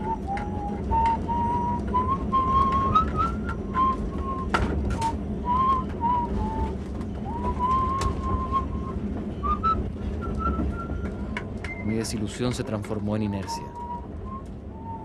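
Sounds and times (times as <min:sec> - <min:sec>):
person whistling a tune: 0:00.0 - 0:11.9, 0:13.5 - 0:15.0.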